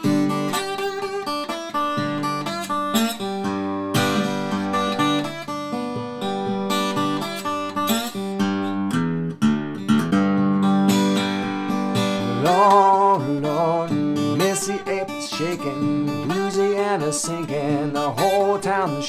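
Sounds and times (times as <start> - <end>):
slide acoustic guitar fingerpicked: 0.0 - 19.0.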